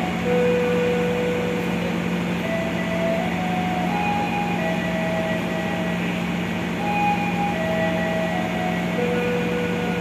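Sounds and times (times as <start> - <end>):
diesel train idling: 0.0 - 10.0
held tones changing pitch: 0.0 - 10.0.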